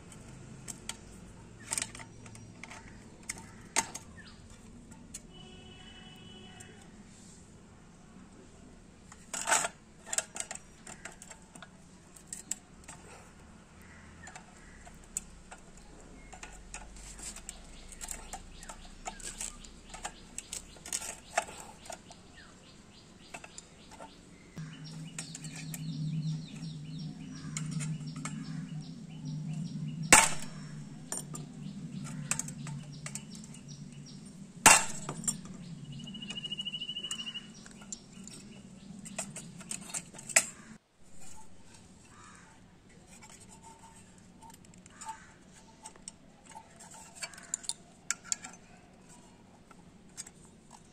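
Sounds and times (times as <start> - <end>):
metal parts and tools clinking: 0.0 - 5.5, 9.1 - 13.4, 14.1 - 22.6, 23.2 - 42.2, 42.9 - 50.9.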